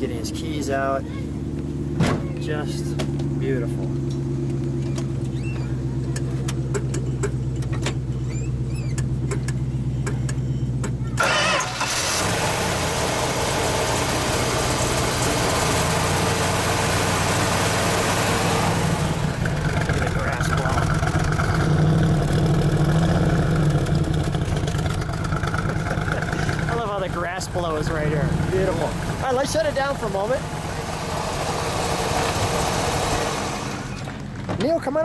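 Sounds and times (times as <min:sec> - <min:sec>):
car engine starting and running: 0:00.0 - 0:35.0.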